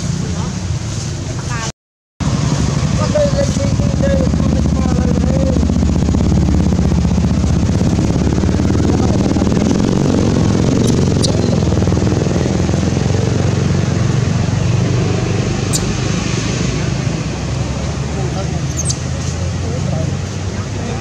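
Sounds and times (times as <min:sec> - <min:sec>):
engine running low rumble: 0:02.2 - 0:21.0.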